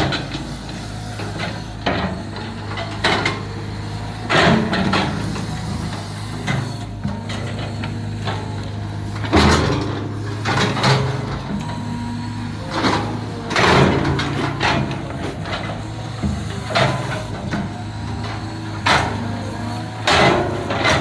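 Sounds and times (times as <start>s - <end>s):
excavator diesel engine running: 0.0s - 21.0s
excavator scraping and clanking: 0.0s - 21.0s.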